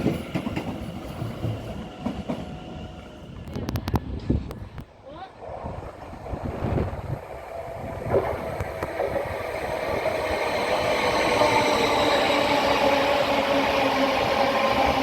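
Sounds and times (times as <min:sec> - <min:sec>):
train whine of several tones: 0:00.0 - 0:04.8, 0:05.4 - 0:15.0
train running: 0:00.0 - 0:15.0.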